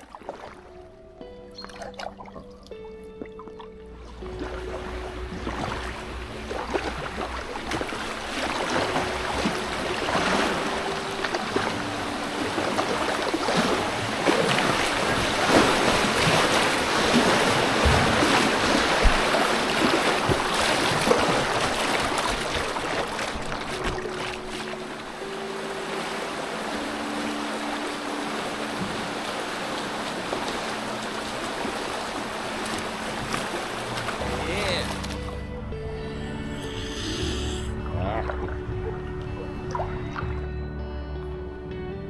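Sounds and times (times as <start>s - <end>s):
river water rushing and splashing: 0.0s - 40.6s.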